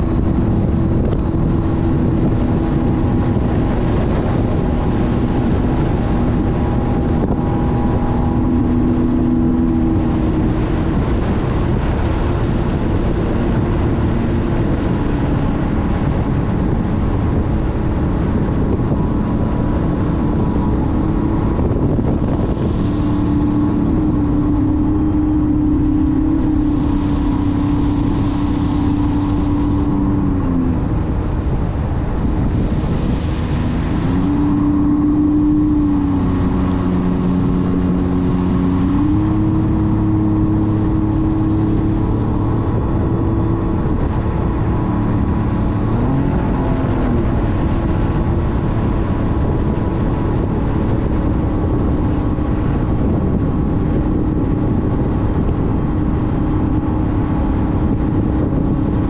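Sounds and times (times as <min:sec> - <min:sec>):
personal watercraft engine running: 0:00.0 - 0:59.0
wind noise on microphone: 0:00.0 - 0:59.0.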